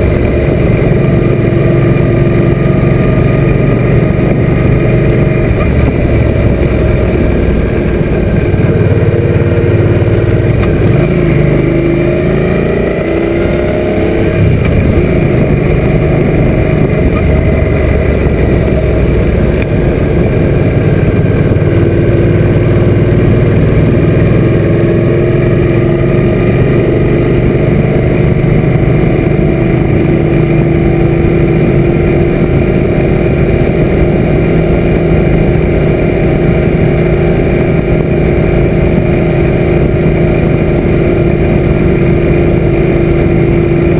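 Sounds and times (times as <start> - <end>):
motorcycle engine running: 0.0 - 43.9
wind noise on camera: 0.0 - 43.9.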